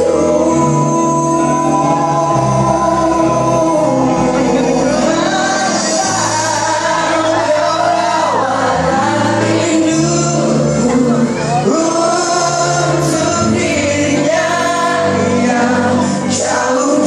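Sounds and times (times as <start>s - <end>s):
bass notes: 0.0s - 17.0s
live band playing: 0.0s - 17.0s
man singing lead: 0.0s - 17.0s.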